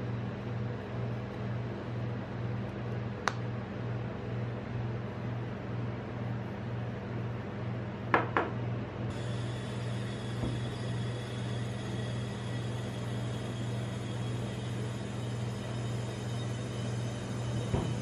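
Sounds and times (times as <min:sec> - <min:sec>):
refrigerated cold plate humming: 0:00.0 - 0:18.0.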